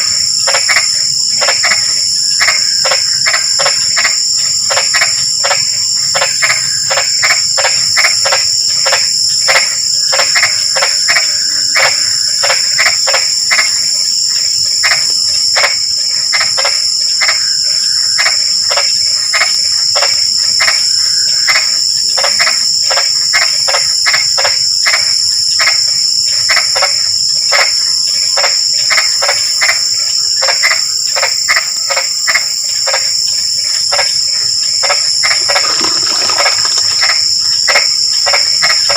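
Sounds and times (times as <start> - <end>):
frogs calling: 0.0 - 38.9
high-pitched insect trill: 0.0 - 38.9.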